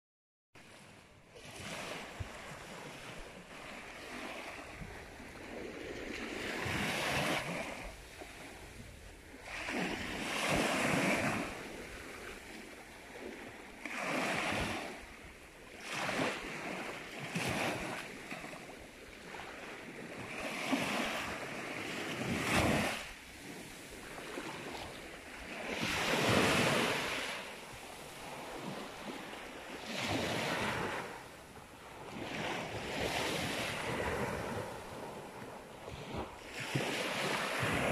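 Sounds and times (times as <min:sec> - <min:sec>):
small waves washing on sand: 0:00.6 - 0:37.9.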